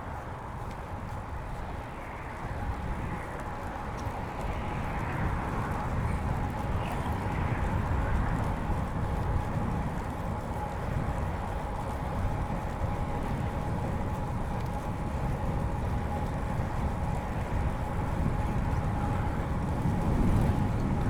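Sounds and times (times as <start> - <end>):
bicycle tyres rumbling on pavement: 0.0 - 21.0
wind on microphone: 0.0 - 21.0.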